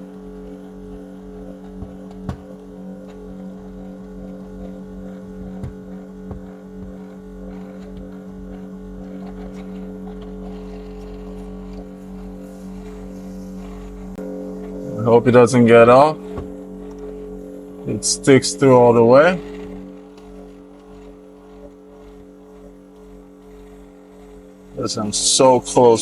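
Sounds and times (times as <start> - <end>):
small clicks: 0.0 - 14.8, 16.2 - 26.0
low machine hum: 0.0 - 26.0.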